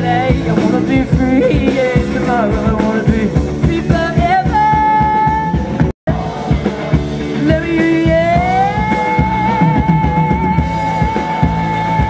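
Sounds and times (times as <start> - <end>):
live rock band playing: 0.0 - 12.0
man singing long notes: 0.0 - 12.0.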